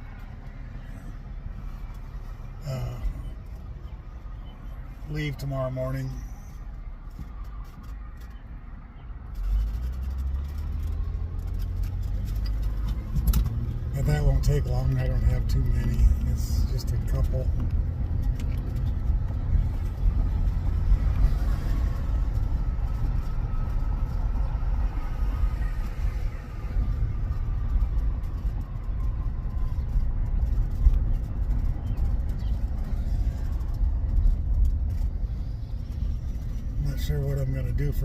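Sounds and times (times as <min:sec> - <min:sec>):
road and engine rumble: 0:00.0 - 0:38.0.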